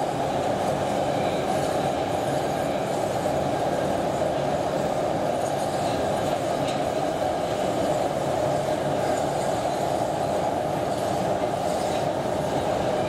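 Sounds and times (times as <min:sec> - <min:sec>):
metro train running in tunnel: 0:00.0 - 0:13.0.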